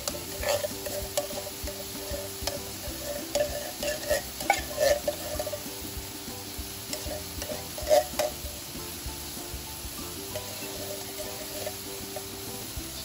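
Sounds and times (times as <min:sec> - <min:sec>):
metal spoon scraping a pan: 0:00.0 - 0:05.9, 0:06.6 - 0:08.7, 0:10.1 - 0:13.0
light sizzle: 0:00.0 - 0:13.0.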